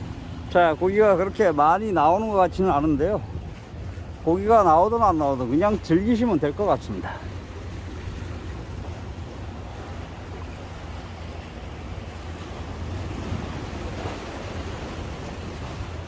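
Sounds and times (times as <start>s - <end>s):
sea waves washing on concrete: 0.0s - 16.0s
wind buffeting microphone: 0.0s - 16.0s.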